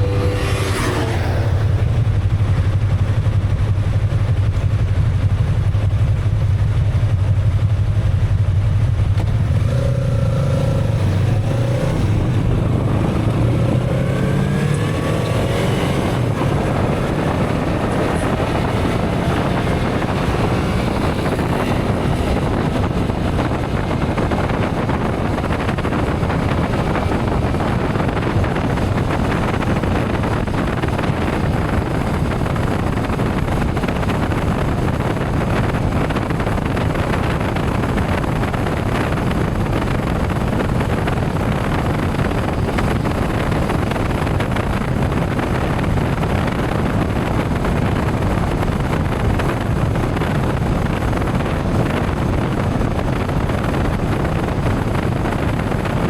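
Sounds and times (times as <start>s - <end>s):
motorcycle engine running: 0.0s - 56.0s
wind noise over microphone: 0.0s - 56.0s.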